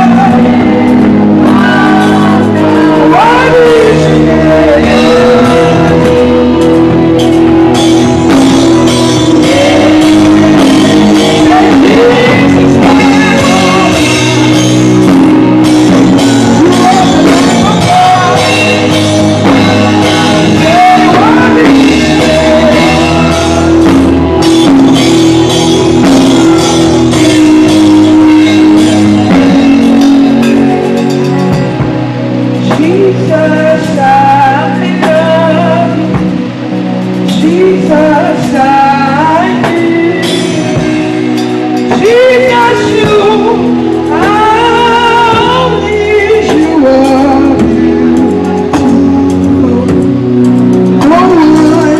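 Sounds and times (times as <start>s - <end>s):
drums: 0.0s - 51.9s
gospel choir singing: 0.0s - 51.9s
live band playing: 0.0s - 51.9s.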